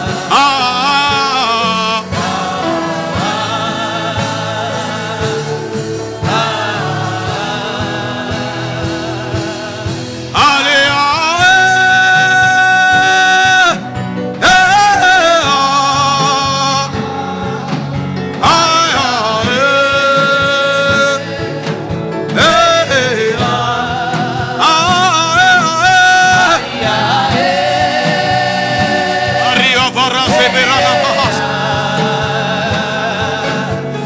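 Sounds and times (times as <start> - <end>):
instrumental backing music: 0.0 - 34.0.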